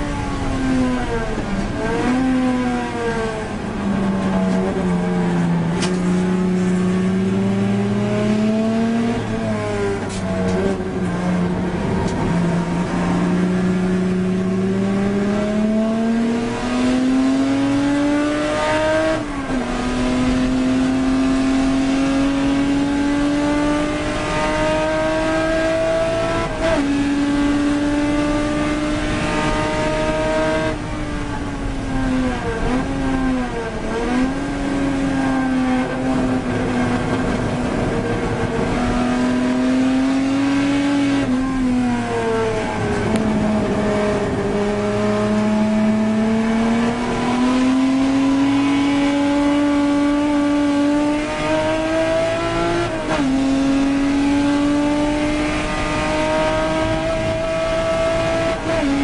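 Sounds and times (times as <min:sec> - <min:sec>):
racing car engine: 0:00.0 - 0:59.0.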